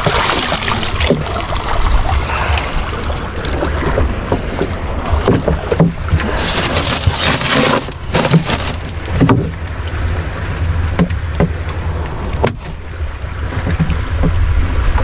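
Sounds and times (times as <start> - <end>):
steady low rumble: 0.0 - 7.0, 7.9 - 15.0.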